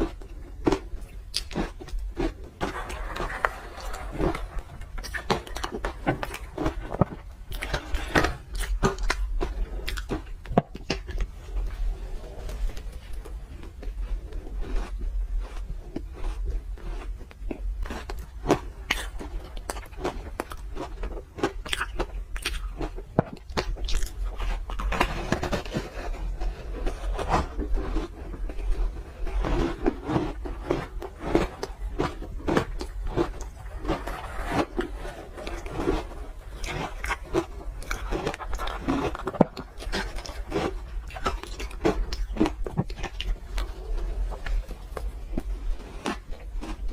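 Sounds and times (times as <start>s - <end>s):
wet chewing: 0.0s - 11.8s, 12.4s - 46.9s
low steady hum: 0.0s - 46.9s.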